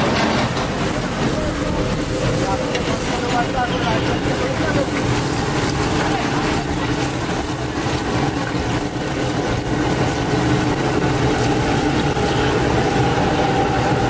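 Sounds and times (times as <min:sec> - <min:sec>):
oil sizzling: 0:00.0 - 0:14.0.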